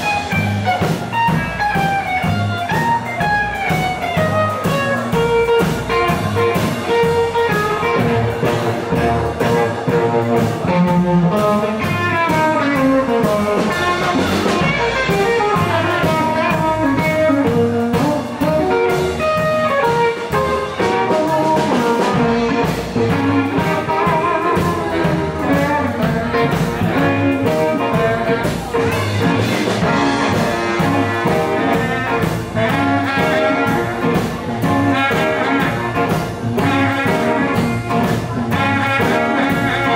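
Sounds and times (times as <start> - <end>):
drum kit: 0.0 - 39.9
electric guitar: 0.0 - 39.9
saxophone: 0.0 - 39.9.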